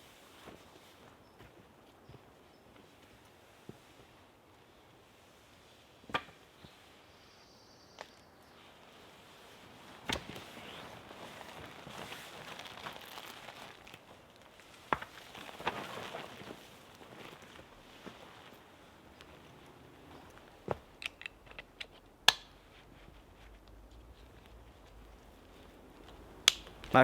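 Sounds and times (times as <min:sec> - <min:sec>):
rustling and crinkling: 0:00.0 - 0:05.8, 0:08.6 - 0:27.0.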